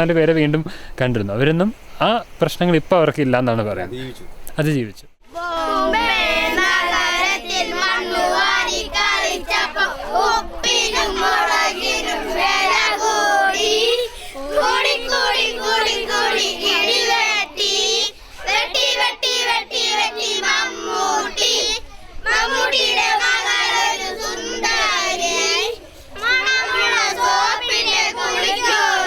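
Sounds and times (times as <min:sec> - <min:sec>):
children singing: 0:05.4 - 0:29.0.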